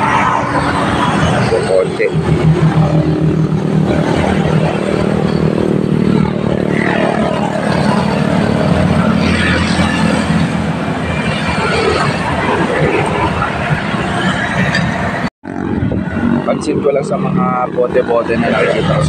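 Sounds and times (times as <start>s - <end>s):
motorcycles passing: 0.0s - 19.0s.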